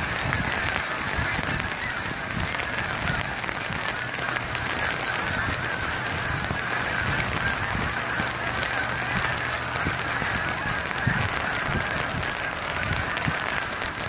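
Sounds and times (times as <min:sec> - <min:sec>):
geese honking: 0:00.0 - 0:14.0
wind on microphone: 0:00.0 - 0:14.0.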